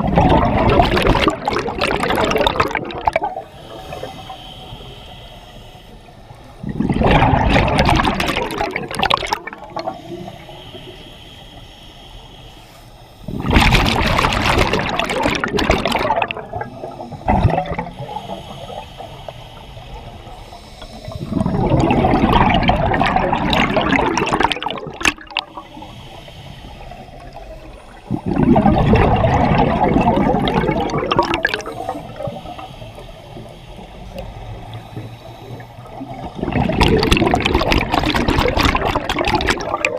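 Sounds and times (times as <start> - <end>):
regulator bubbles underwater: 0.0 - 4.9, 6.3 - 11.0, 13.2 - 39.9.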